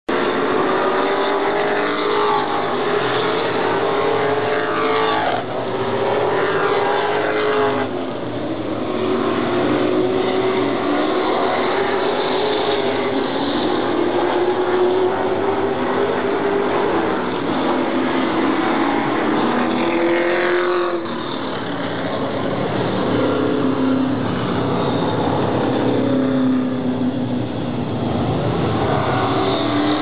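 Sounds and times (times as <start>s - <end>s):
race car engines passing: 0.1s - 30.0s.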